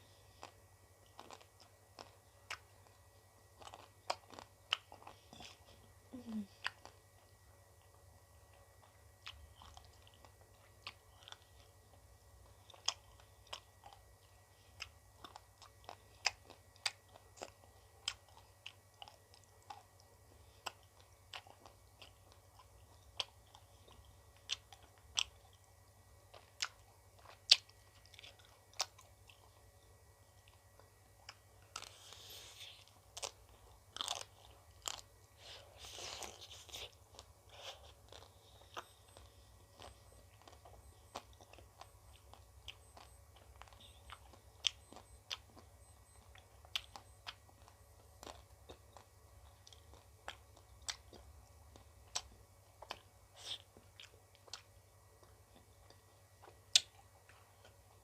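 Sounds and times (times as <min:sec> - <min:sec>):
crunching and chewing ice cream: 0:00.0 - 0:58.0.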